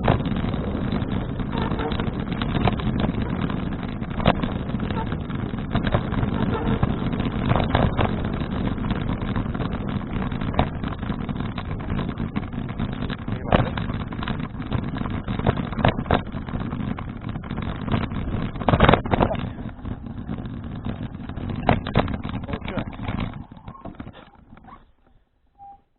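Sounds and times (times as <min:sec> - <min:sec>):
sharp knocks and rattles: 0:00.0 - 0:25.2
bicycle rolling noise: 0:00.0 - 0:25.9
wind: 0:00.0 - 0:25.9.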